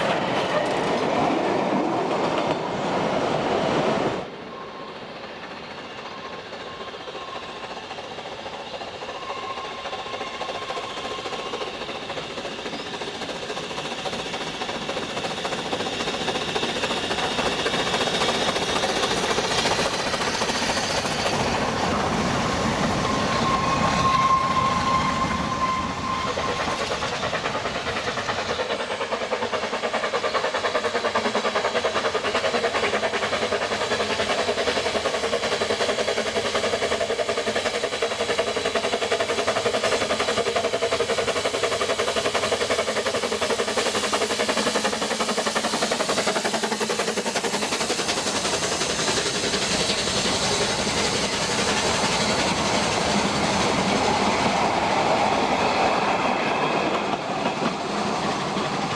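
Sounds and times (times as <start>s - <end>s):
train wheels clattering on rails: 0.0s - 58.9s.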